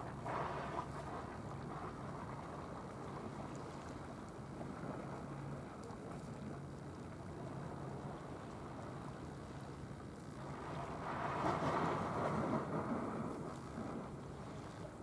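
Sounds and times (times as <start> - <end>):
faint low hum: 0.0 - 15.0
water: 0.0 - 15.0
wind: 0.0 - 15.0.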